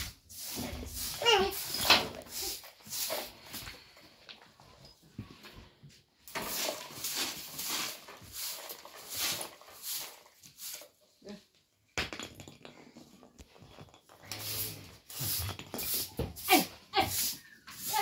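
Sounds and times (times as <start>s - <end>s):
broom sweeping earthen floor: 0.0s - 11.5s, 13.4s - 18.0s.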